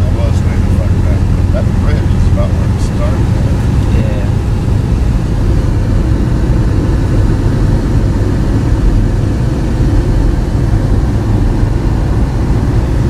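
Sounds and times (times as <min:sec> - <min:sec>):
motor vehicle driving rumble: 0:00.0 - 0:13.0.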